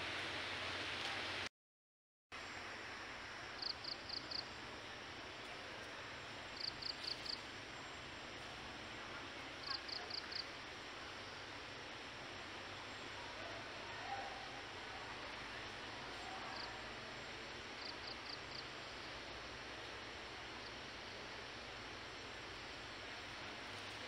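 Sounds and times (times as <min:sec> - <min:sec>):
steady outdoor hiss: 0:00.0 - 0:01.5, 0:02.3 - 0:24.0.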